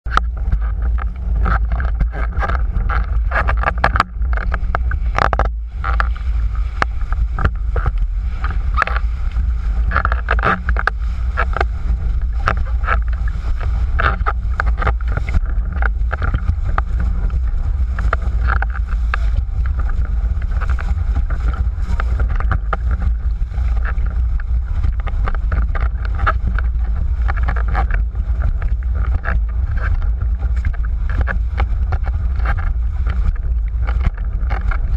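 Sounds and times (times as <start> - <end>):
board slapping and splashing water: 0.0 - 34.9
steady low rumble: 0.0 - 34.9
wind buffeting microphone: 0.0 - 34.9.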